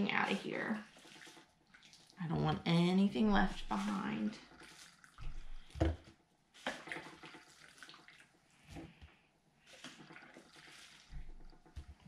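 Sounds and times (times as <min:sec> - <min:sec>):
liquid splashing and dripping: 0:00.0 - 0:12.0.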